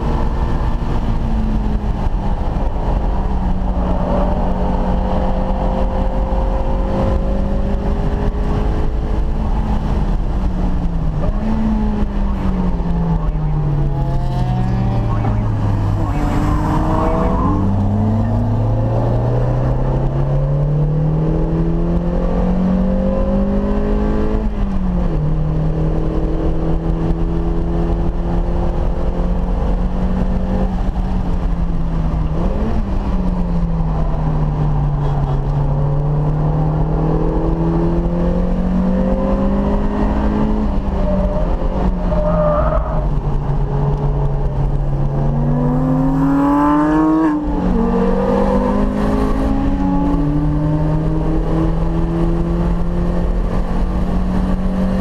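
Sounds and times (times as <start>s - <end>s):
car engine revving: 0.0s - 55.0s
road noise: 0.0s - 55.0s.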